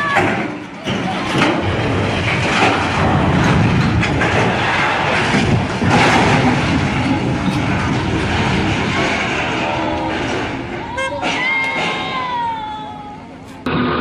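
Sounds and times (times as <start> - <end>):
crane crashing to the ground: 0.0 - 12.7
heavy steel rumbling: 0.0 - 14.0.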